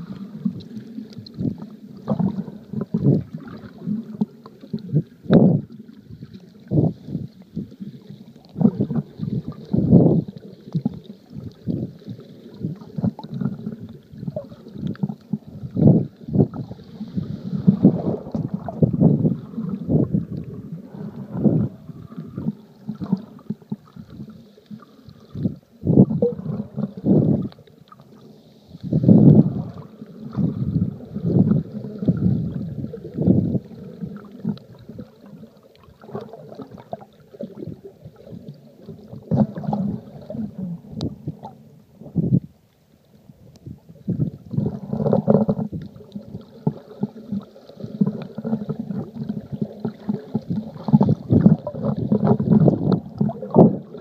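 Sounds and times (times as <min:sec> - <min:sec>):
muffled underwater water sloshing: 0:00.0 - 0:54.0.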